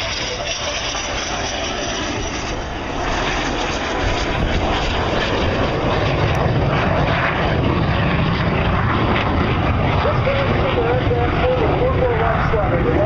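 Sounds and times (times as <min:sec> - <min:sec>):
jet flying past: 0:00.0 - 0:13.0.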